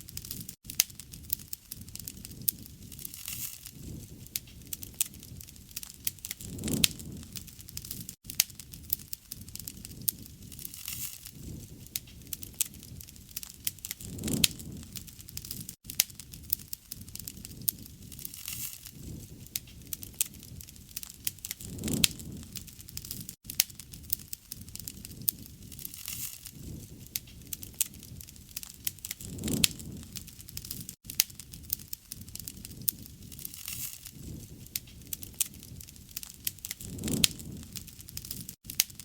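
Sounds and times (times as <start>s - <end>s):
soft hiss of burning: 0.0s - 39.0s
wood fire crackling: 0.0s - 39.0s.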